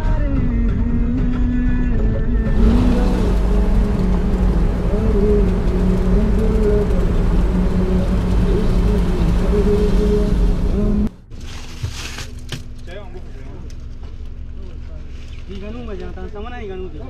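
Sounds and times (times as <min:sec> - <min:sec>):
road rumble: 0:01.2 - 0:17.0
car engine drone: 0:02.4 - 0:17.0.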